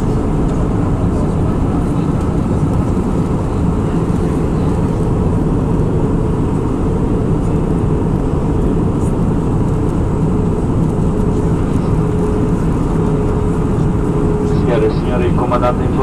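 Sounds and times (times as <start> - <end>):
airplane cabin rush: 0.0 - 16.0.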